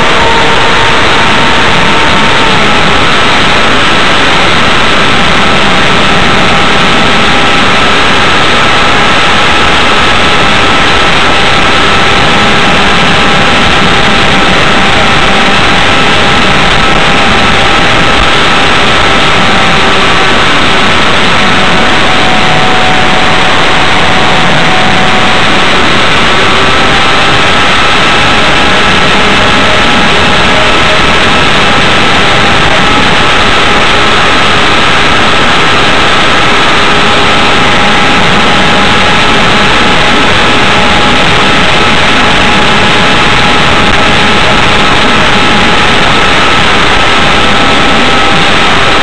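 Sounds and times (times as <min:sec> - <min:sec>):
electric motor and propeller whine: 0:00.0 - 0:49.0
wind roaring over microphone: 0:00.0 - 0:49.0.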